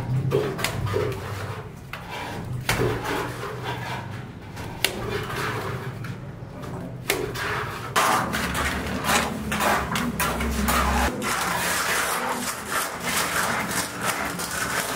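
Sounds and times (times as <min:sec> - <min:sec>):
rough scraping: 0:00.3 - 0:14.9
buckets and tools clattering: 0:02.4 - 0:14.9.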